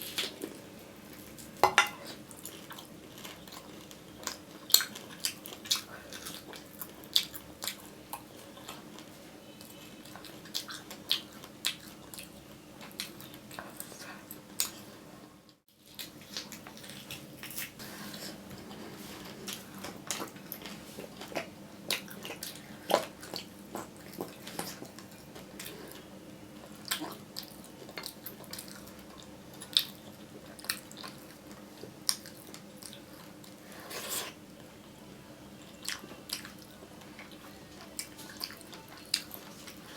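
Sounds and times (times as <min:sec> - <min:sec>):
person chewing food: 0:00.0 - 0:15.0, 0:15.8 - 0:34.7, 0:35.6 - 0:39.9.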